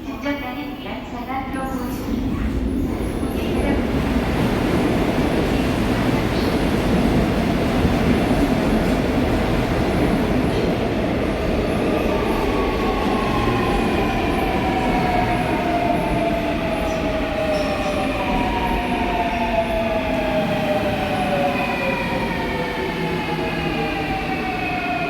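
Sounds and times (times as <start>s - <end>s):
train wheels rumbling on rail: 0.5s - 25.0s.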